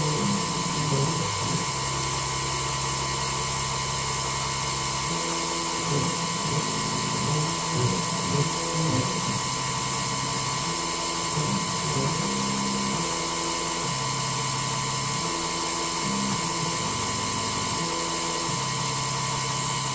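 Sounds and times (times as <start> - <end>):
milling machine spindle whine: 0.0 - 19.9.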